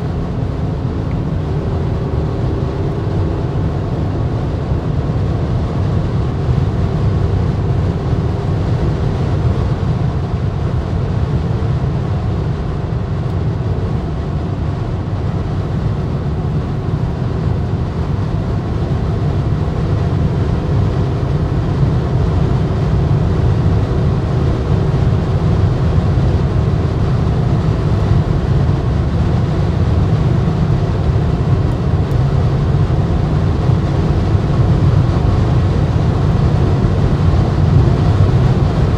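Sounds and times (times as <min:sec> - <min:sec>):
faint engine drone: 0:00.0 - 0:38.9
tyre and wind rumble: 0:00.0 - 0:38.9.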